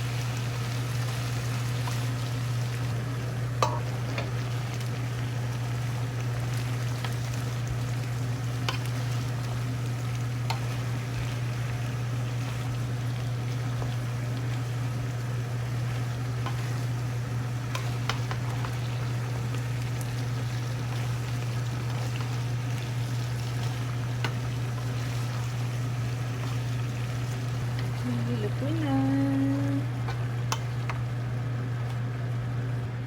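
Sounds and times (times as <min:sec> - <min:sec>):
food sizzling in a pan: 0:00.0 - 0:32.8.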